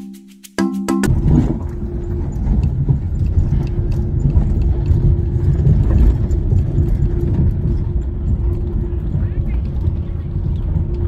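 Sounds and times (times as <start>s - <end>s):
car rumbling over gravel: 1.1s - 11.0s.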